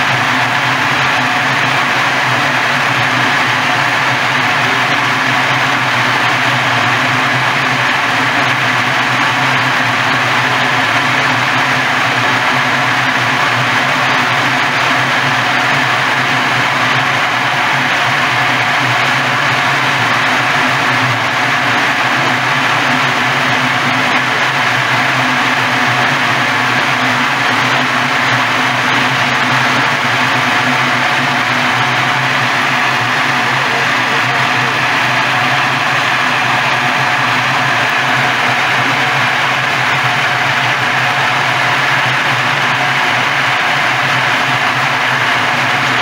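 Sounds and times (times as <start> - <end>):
husking drum rushing: 0.0 - 46.0
motor hum: 0.0 - 46.0.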